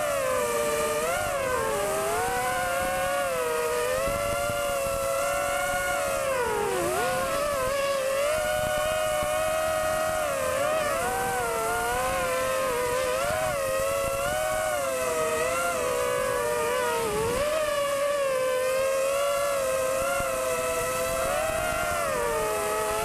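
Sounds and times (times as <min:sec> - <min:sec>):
prop wash and wind: 0:00.0 - 0:23.0
quadcopter motors whining: 0:00.0 - 0:23.0.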